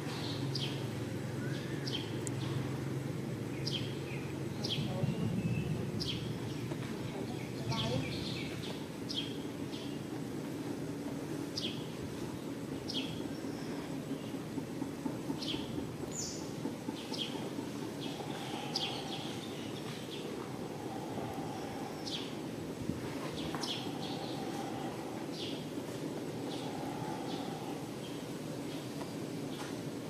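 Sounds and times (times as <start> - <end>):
birds chirping: 0.0 - 29.8
low background noise: 0.0 - 30.0.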